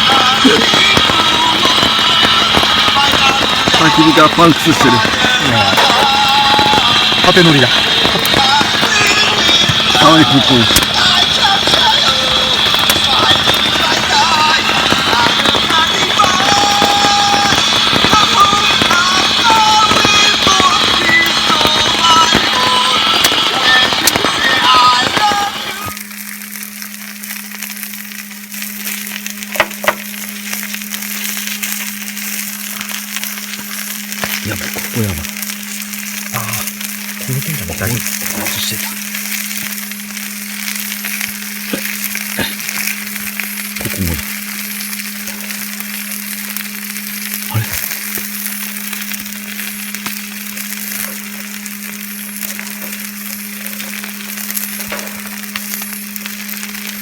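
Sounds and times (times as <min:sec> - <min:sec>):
food sizzling in oiled pan: 0:00.0 - 0:57.0
steady low hum: 0:00.0 - 0:57.0.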